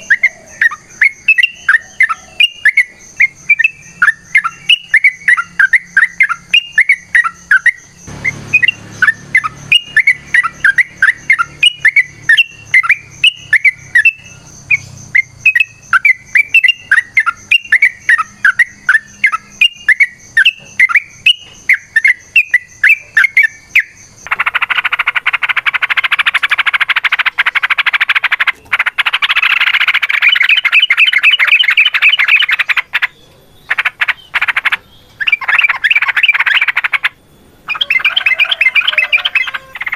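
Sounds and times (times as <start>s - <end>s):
bird bubbly chirping: 0.0s - 14.2s, 15.2s - 33.2s
bird rapid chatter: 0.0s - 39.9s.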